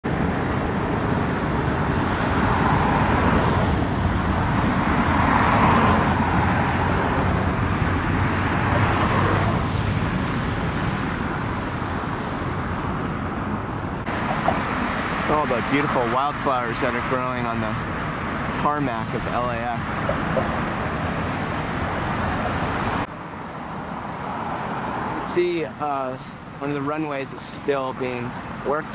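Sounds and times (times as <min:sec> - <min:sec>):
road traffic: 0:00.0 - 0:28.9.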